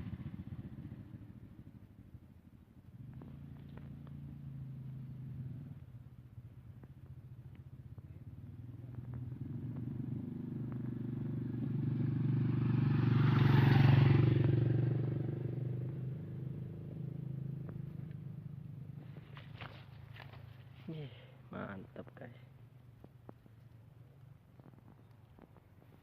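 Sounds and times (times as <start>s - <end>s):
motorcycle engine passing by: 0.0s - 6.6s, 7.8s - 23.3s.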